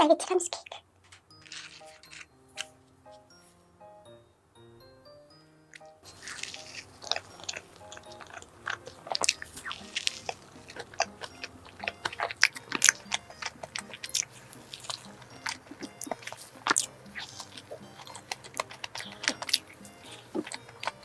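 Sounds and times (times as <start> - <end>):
wet chewing and bites: 0.6 - 2.8, 6.0 - 21.0
soft background music: 1.0 - 21.0.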